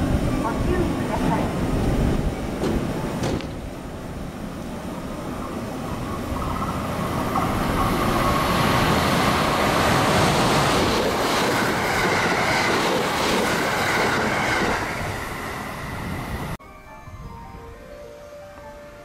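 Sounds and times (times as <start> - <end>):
train passing at speed: 0.0 - 16.6.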